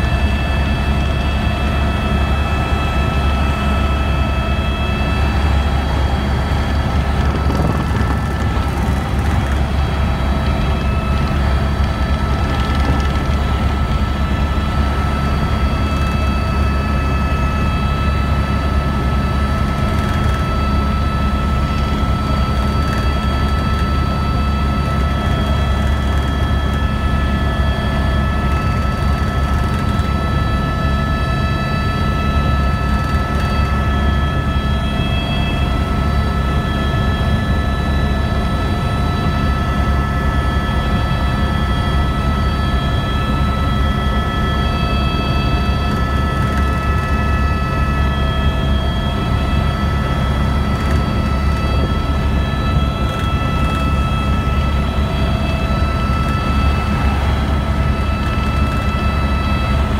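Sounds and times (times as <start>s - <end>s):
helicopter low drone: 0.0s - 59.9s
high whine tones: 0.0s - 59.9s.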